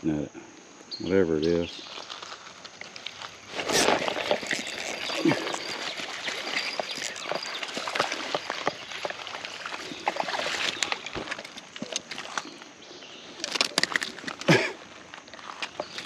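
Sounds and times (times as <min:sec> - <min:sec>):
creek water splashing: 0:01.9 - 0:16.0.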